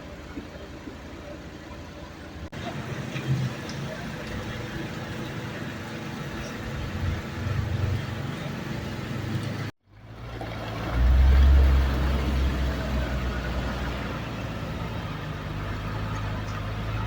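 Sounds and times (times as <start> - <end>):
heavy vehicle engine running: 0.0 - 17.0
work site noise: 0.0 - 17.0.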